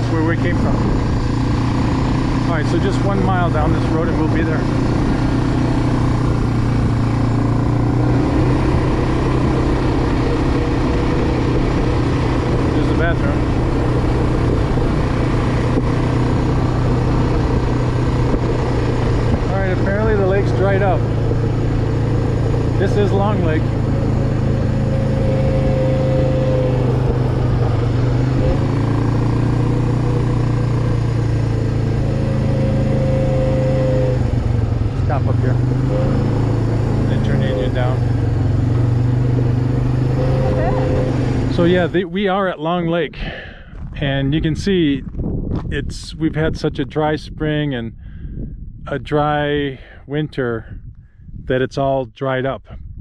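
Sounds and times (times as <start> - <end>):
atv engine running: 0.0 - 49.6.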